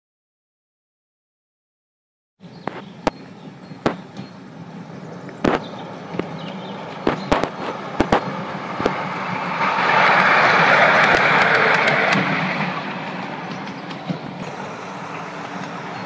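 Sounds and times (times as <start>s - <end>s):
miniature train rolling rumble: 2.6s - 16.0s
wheels clicking over rail joints: 2.6s - 16.0s.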